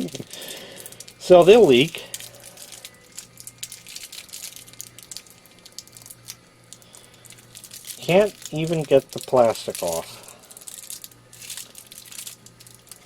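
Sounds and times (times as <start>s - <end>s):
low steady hum: 0.0s - 13.0s
plastic blister pack crinkling: 0.0s - 13.0s.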